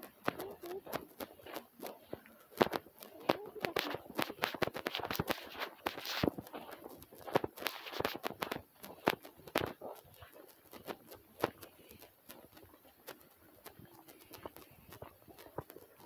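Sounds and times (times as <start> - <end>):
footsteps on gravel trail: 0.0 - 16.0.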